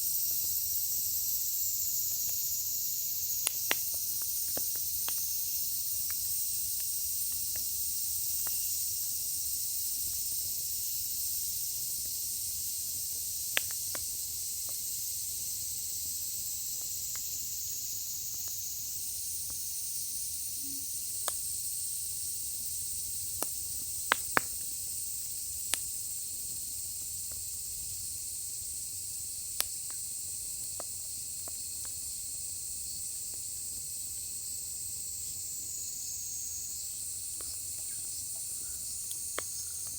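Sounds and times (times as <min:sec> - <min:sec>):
firewood crackling and hissing: 0:00.0 - 0:39.9.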